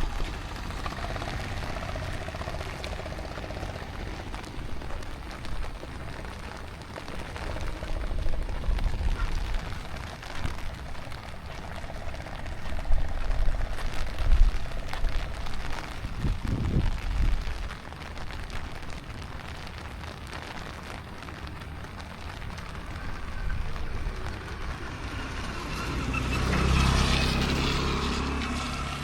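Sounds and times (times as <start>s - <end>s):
wind buffeting microphone: 0.0s - 25.6s
rain hiss: 0.0s - 29.0s.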